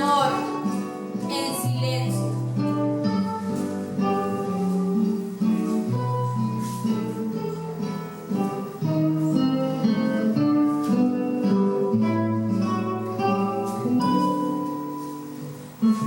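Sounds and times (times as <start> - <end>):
acoustic guitar melody: 0.0 - 16.0.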